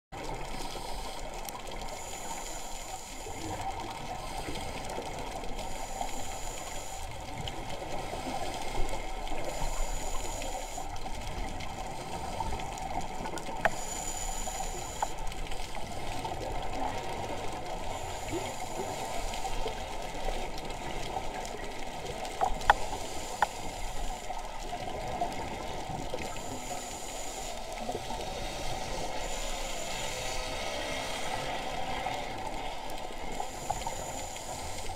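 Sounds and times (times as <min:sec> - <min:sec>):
underwater water rush: 0:00.2 - 0:34.9.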